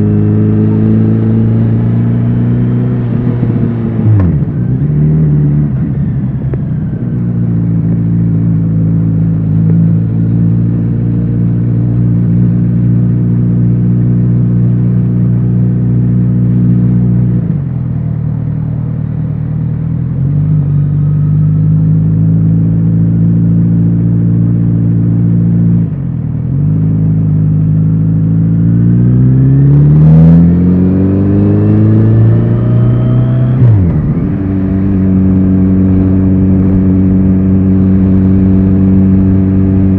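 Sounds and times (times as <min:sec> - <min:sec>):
motorcycle engine revving: 0:00.0 - 0:18.0, 0:19.5 - 0:39.9.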